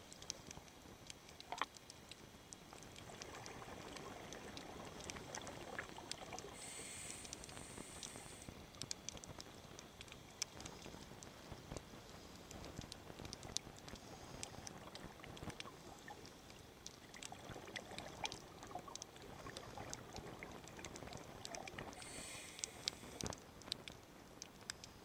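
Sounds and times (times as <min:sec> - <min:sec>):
low underwater wash: 0:00.0 - 0:25.0
sharp clicks and crackles: 0:00.0 - 0:25.0.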